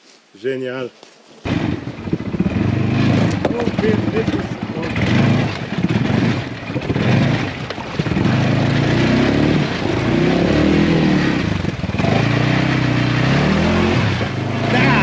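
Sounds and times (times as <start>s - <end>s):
atv engine revving: 1.4s - 15.0s.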